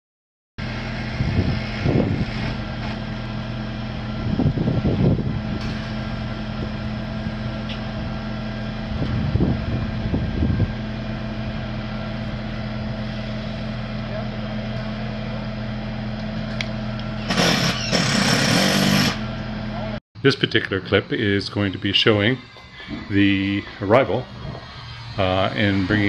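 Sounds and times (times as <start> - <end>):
engine idling: 0.6 - 26.0.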